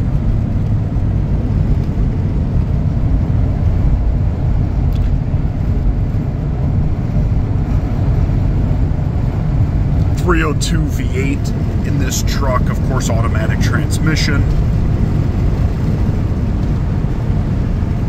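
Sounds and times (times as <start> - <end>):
pickup engine running: 0.0 - 18.0.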